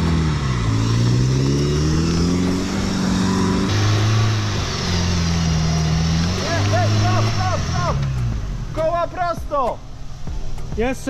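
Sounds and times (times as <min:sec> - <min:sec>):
off-road vehicle engine revving: 0:00.0 - 0:09.3.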